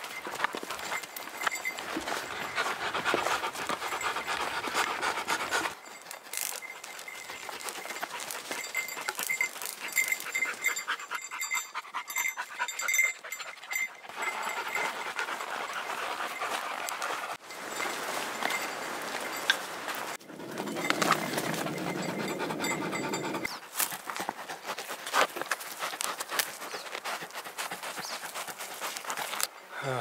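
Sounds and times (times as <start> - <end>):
hoof steps: 0.0 - 29.6
dog panting: 0.3 - 6.0, 7.2 - 17.4, 20.2 - 29.4.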